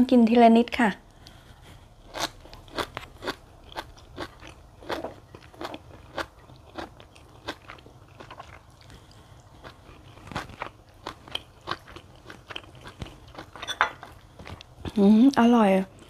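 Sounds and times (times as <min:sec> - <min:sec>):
person chewing crunchy food: 0:01.1 - 0:15.4.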